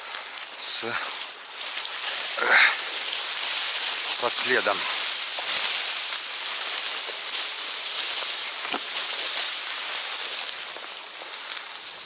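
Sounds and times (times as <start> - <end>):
dry reeds rustling underfoot: 0.0 - 12.0.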